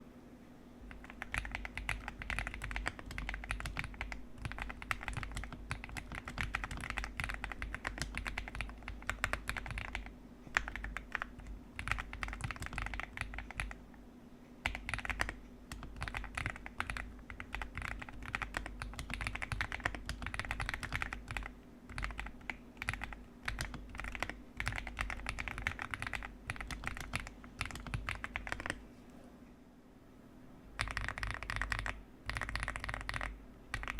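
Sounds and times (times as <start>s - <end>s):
mechanical keyboard typing: 0.9s - 13.8s, 14.6s - 28.8s, 30.8s - 33.9s.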